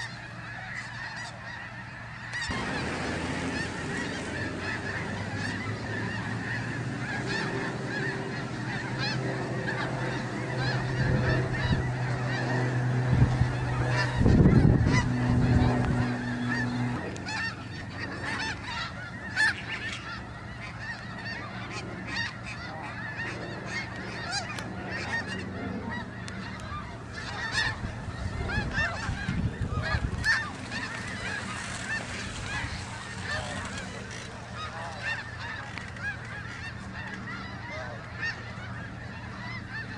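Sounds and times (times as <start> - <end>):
geese honking: 0.0 - 39.9
low drone: 2.3 - 39.9.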